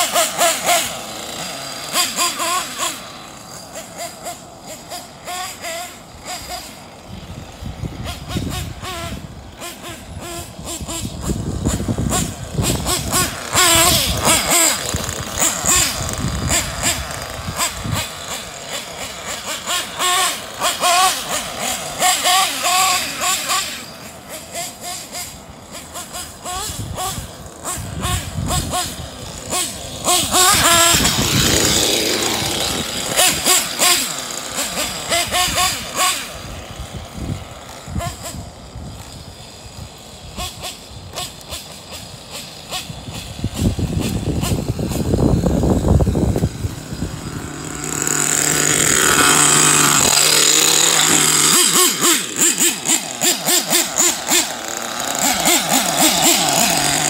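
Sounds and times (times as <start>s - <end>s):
model truck engine revving: 0.0s - 57.0s.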